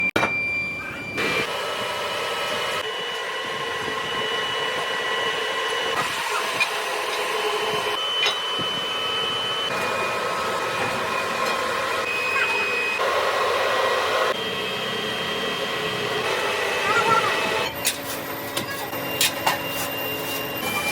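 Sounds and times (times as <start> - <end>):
factory machinery hum and hiss: 0.2 - 20.9
high machine whining: 0.5 - 20.9.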